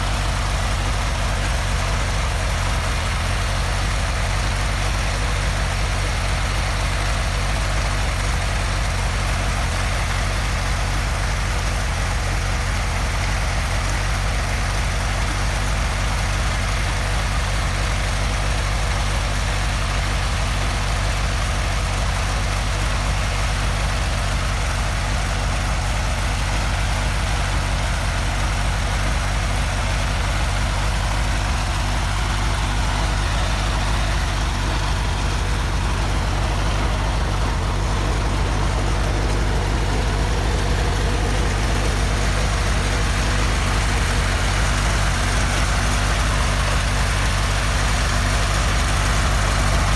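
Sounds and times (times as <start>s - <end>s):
helicopter engine idling: 0.0s - 49.9s.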